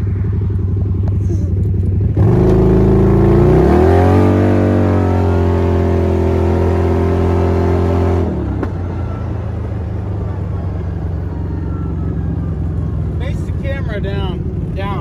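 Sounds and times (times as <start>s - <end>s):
engine accelerating: 0.0s - 15.0s.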